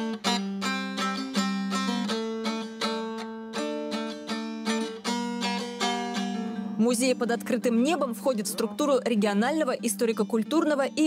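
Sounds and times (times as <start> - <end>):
plucked notes: 0.0 - 11.0.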